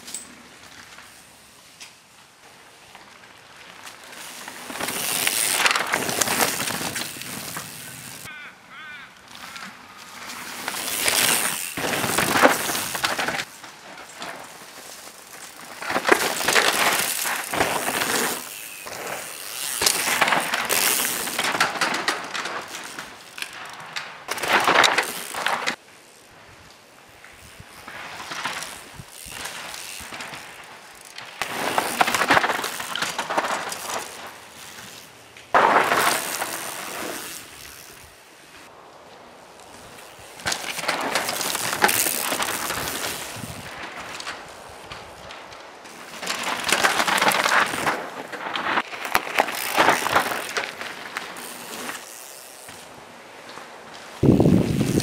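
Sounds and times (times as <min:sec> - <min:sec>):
bike tyres skidding on dirt: 0:00.0 - 0:55.0.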